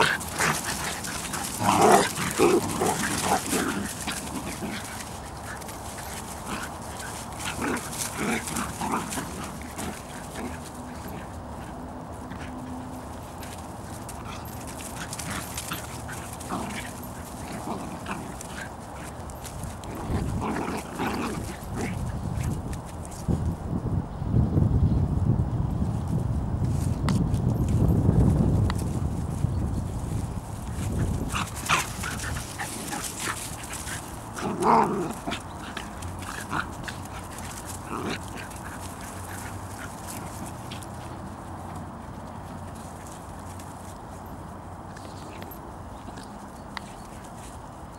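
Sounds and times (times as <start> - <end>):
dogs scuffling: 0.0 - 23.6, 26.6 - 47.9.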